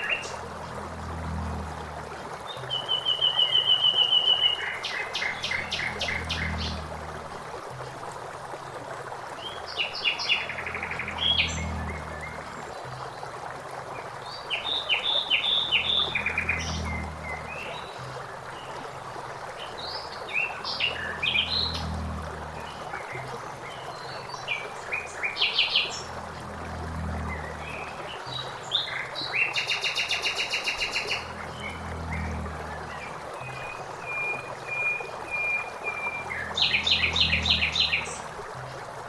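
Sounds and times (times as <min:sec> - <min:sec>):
flowing water: 0:00.0 - 0:39.0.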